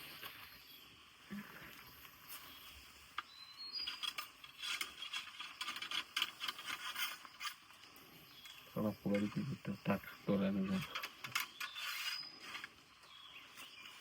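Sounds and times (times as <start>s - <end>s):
rustling and crackling: 0.0s - 14.0s
rubbing and scraping contact noise: 1.8s - 9.9s, 10.6s - 14.0s.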